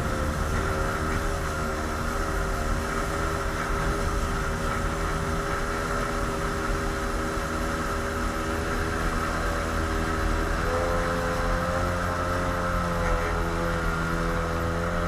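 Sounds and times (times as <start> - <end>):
jet ski engine running: 0.0 - 15.0
rushing water and wind: 0.0 - 15.0.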